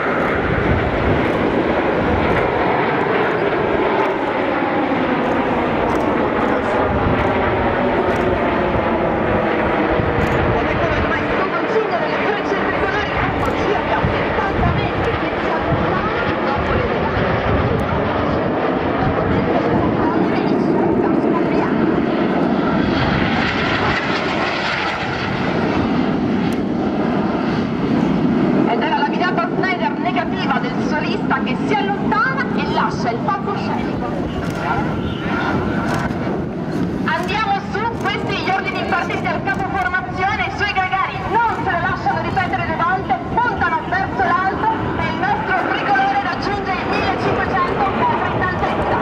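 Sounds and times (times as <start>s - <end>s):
jet engines flying past: 0.0s - 49.0s.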